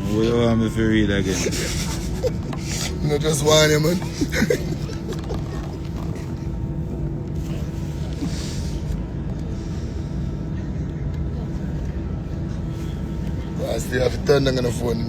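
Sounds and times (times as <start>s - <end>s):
faint constant hum: 0.0s - 15.0s
vehicle interior rumble: 0.0s - 15.0s.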